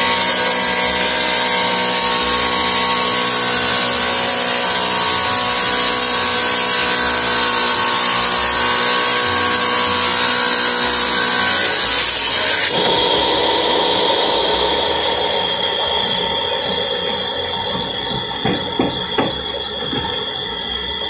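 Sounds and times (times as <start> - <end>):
masonry saw grinding tile: 0.0 - 20.4
saw motor hum: 0.0 - 21.0.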